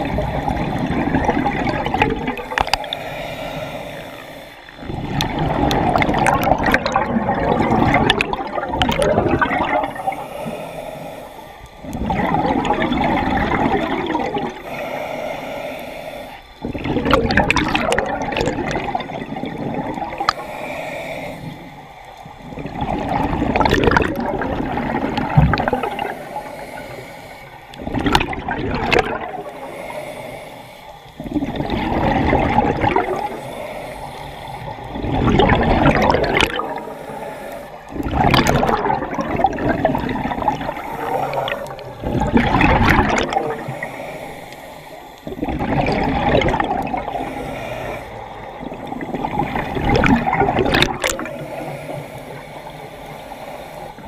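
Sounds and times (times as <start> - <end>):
underwater exhaled bubbles gurgling: 0.0 - 54.0.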